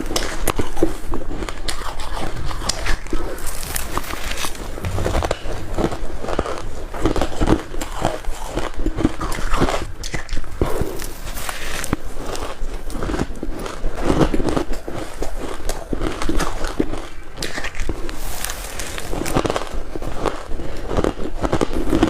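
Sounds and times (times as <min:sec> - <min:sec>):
ice crunching between teeth: 0:00.0 - 0:05.4, 0:06.0 - 0:22.0.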